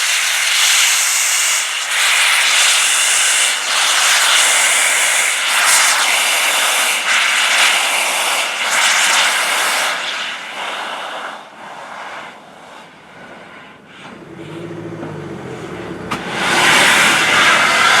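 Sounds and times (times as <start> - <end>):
locomotive steam hissing: 0.0 - 18.0.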